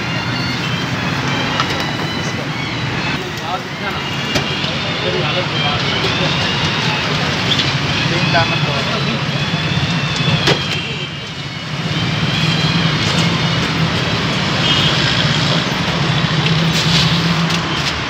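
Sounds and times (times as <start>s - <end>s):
street noise: 0.0s - 18.0s.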